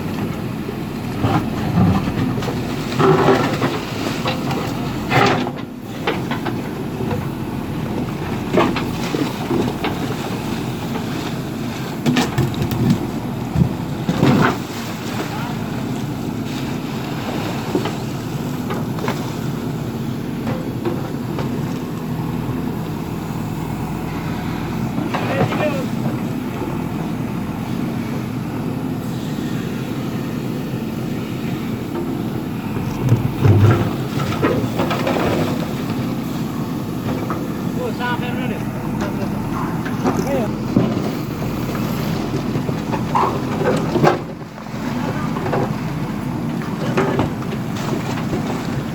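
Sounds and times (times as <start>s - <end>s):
heavy machine engine running: 0.0s - 48.9s.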